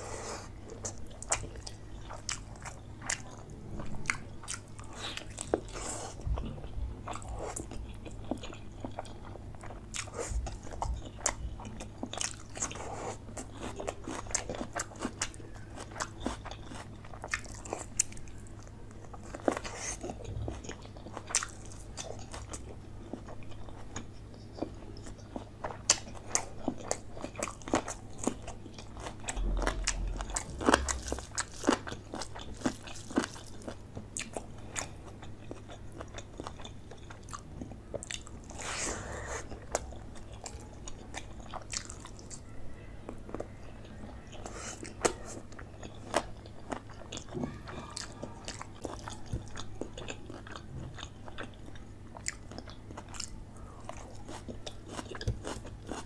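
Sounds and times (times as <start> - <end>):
close chewing and mouth smacks: 0.0 - 56.0.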